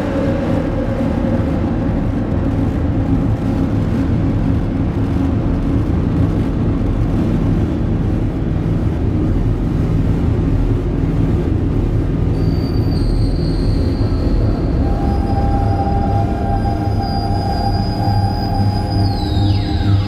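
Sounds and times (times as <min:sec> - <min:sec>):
low rumbling synthesizer drone: 0:00.0 - 0:20.0.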